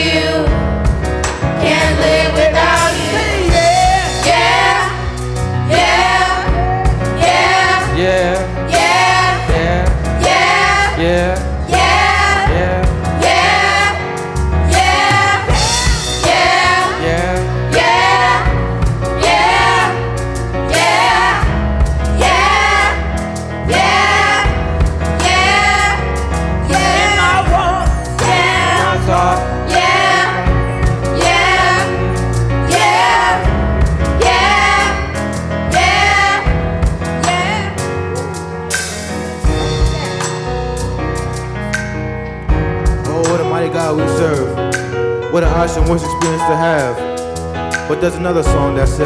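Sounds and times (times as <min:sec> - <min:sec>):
choir singing gospel: 0:00.0 - 0:41.4
band with heavy bass: 0:00.0 - 0:49.0.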